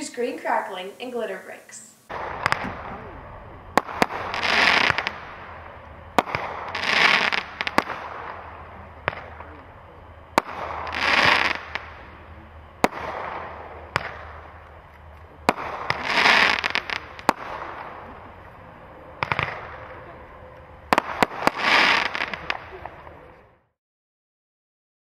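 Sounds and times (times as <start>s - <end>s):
firework crackling: 0.0s - 23.6s
firework bangs: 2.1s - 23.6s.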